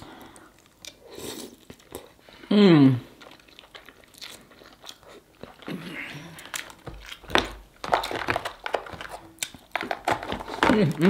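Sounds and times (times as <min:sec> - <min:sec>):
chewing and lip-smacking: 0:00.0 - 0:02.4, 0:03.1 - 0:10.4.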